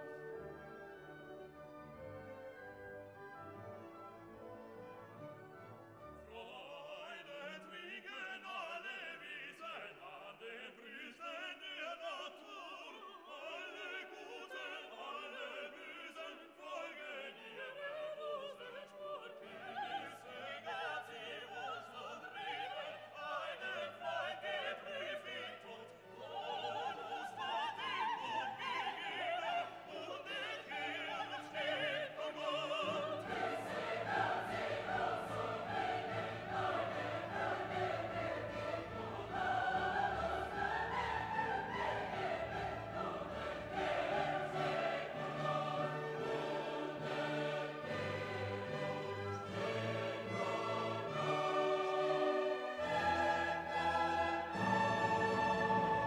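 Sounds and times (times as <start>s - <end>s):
operatic singing over an orchestra: 5.4s - 56.0s.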